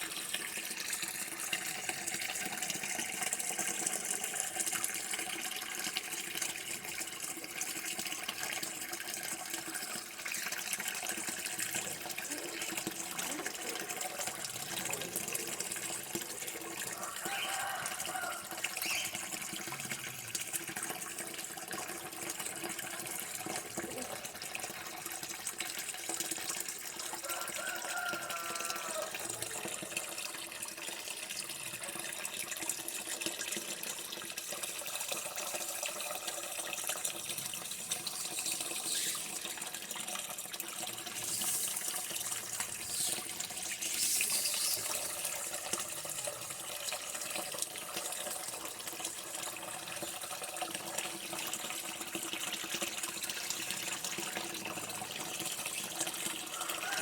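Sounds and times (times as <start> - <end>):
water running from a tap: 0.0 - 57.0.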